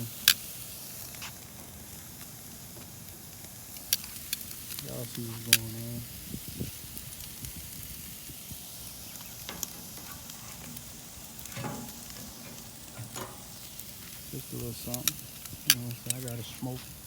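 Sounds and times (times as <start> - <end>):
steaks sizzling on a grill: 0.0 - 17.0.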